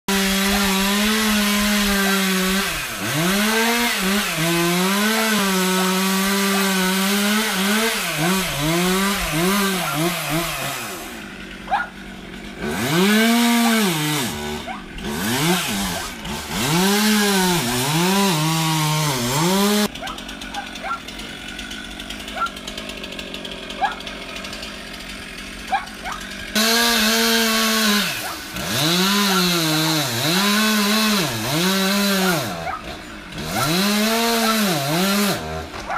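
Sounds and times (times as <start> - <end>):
chainsaw cutting wood: 0.1 - 35.9.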